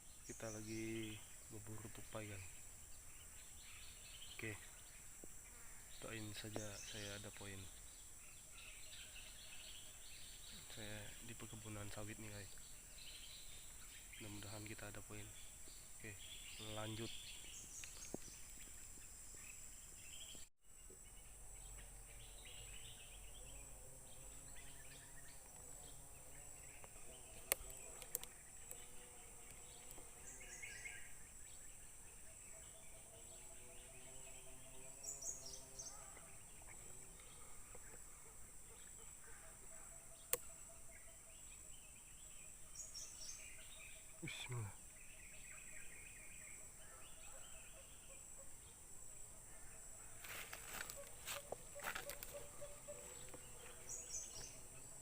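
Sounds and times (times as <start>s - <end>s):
bird chirps: 0.0s - 55.0s
high insect drone: 0.0s - 55.0s.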